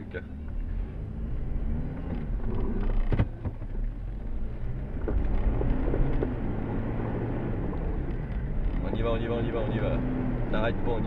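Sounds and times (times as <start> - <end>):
engine running low hum: 0.0 - 11.0.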